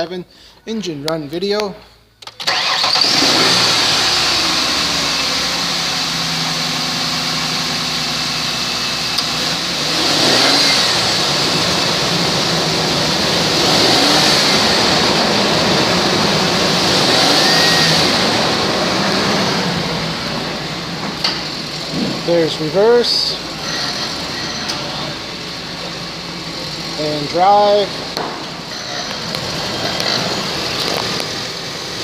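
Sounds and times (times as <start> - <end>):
car engine idling and revving: 2.4 - 32.0.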